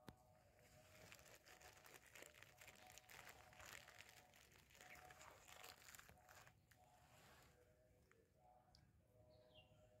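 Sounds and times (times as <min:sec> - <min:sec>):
faint crackling and rustling: 0:00.0 - 0:08.3.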